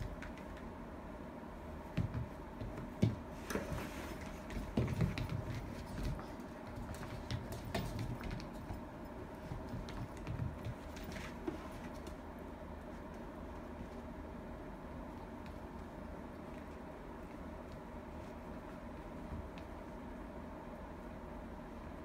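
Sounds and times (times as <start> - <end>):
dog paws clicking on floor: 0.0 - 0.9, 1.7 - 21.0.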